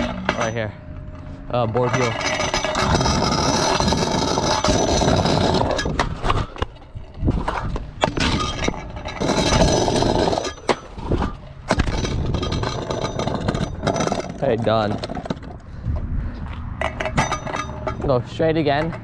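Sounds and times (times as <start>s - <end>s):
wooden wheels rolling on concrete: 0.0s - 19.0s.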